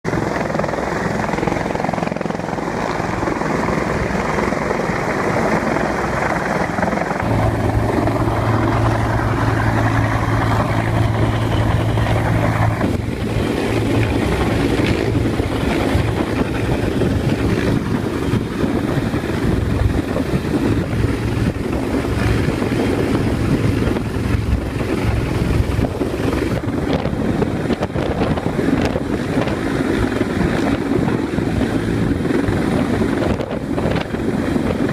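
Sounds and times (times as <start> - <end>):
helicopter hovering overhead: 0.0 - 34.9.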